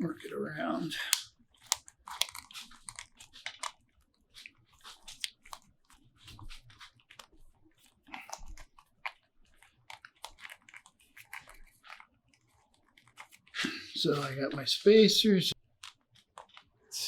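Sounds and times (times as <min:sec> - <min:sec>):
small clicks and scrapes: 0:01.0 - 0:14.7, 0:15.6 - 0:17.0.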